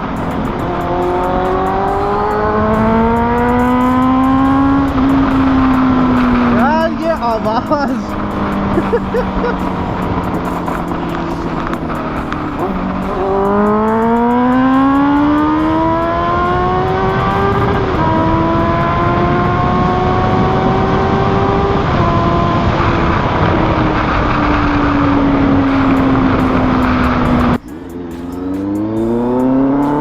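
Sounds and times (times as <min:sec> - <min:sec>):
motorcycle accelerating hard: 0:00.0 - 0:30.0.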